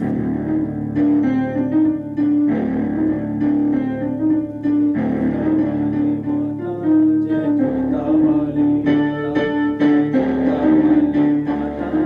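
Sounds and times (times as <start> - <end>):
synthesizer keyboard music: 0.0 - 12.0.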